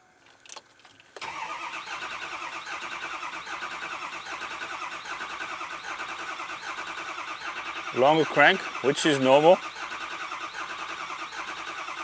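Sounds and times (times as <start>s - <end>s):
diesel engine cranking: 1.1s - 12.0s.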